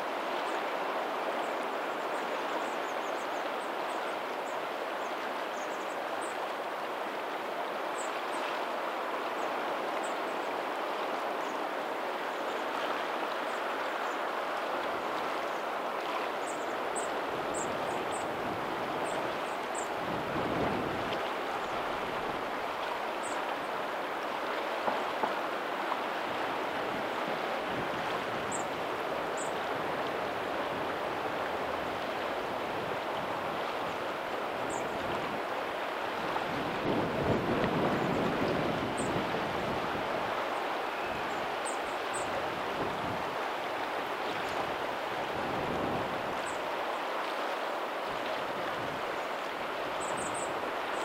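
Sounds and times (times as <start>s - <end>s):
faint ocean waves: 0.0s - 51.0s
water rushing: 0.0s - 51.0s.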